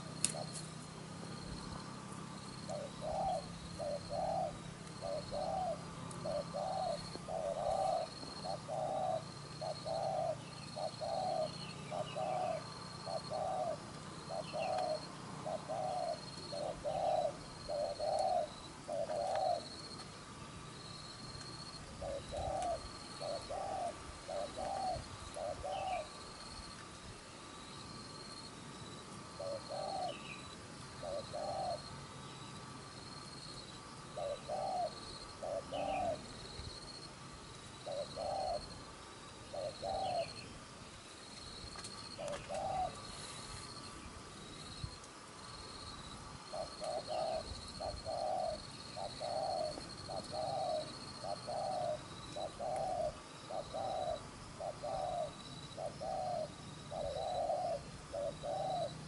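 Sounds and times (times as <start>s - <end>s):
dove cooing: 0.0s - 1.8s, 2.4s - 20.0s, 20.9s - 26.7s, 29.2s - 32.0s, 33.7s - 37.0s, 37.8s - 40.5s, 42.0s - 43.9s, 46.4s - 59.0s.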